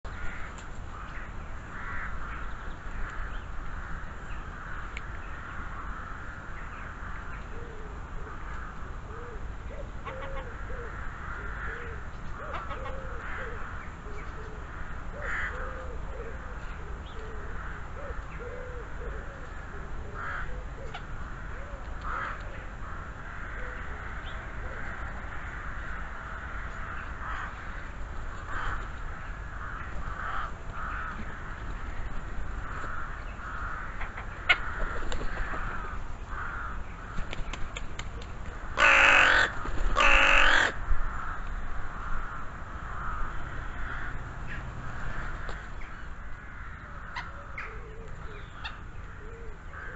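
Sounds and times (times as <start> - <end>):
crows cawing: 0.1 - 7.4, 10.0 - 13.9, 14.7 - 16.0, 17.4 - 37.2, 38.8 - 49.9.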